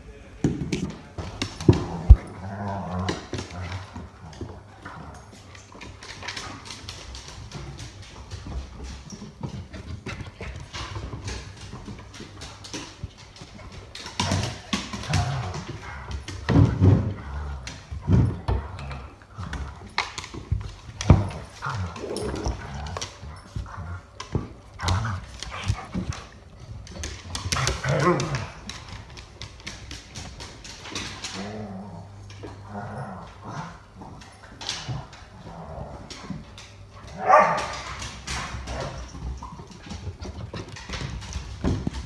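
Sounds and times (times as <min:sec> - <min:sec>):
dogs scuffling and thudding: 0:00.7 - 0:42.0
dog claws clattering on wooden floor: 0:00.8 - 0:42.0.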